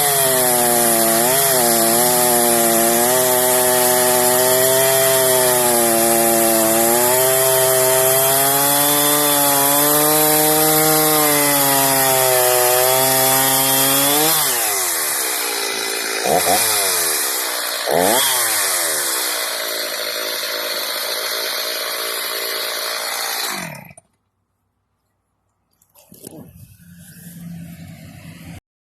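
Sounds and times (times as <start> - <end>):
chainsaw idling: 0.0 - 24.0
chainsaw cutting wood: 0.0 - 24.2.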